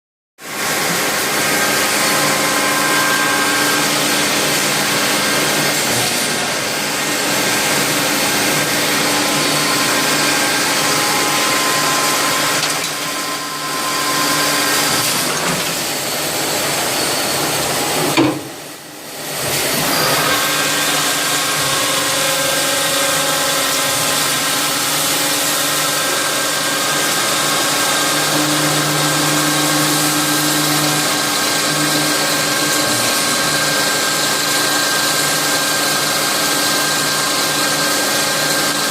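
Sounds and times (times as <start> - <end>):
lathe machine noise with tones: 0.4 - 38.9.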